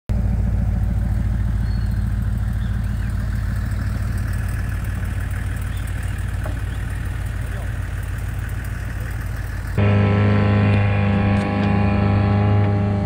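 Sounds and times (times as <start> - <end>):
pickup truck engine idling: 0.1 - 13.0.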